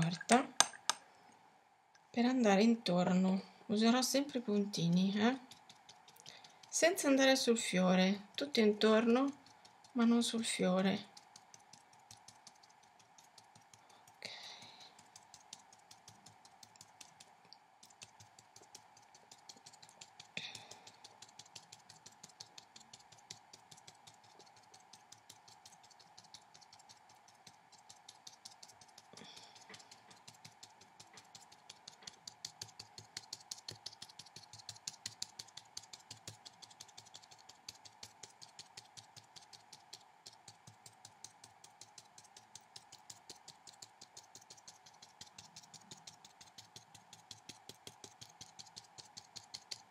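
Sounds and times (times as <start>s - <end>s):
low steady hum: 0.0s - 49.9s
paintbrush tapping on paper: 8.4s - 49.9s.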